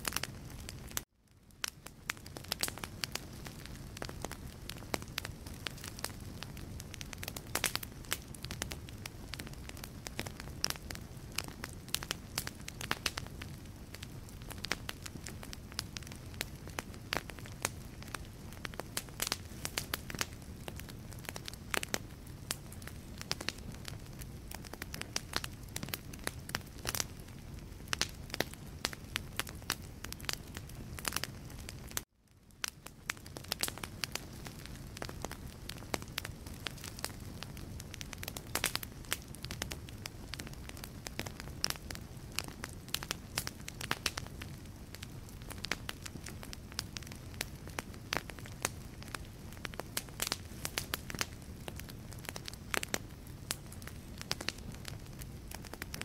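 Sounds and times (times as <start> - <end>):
logs crackling and popping: 0.0 - 56.0
low rumble of flame: 0.0 - 56.0.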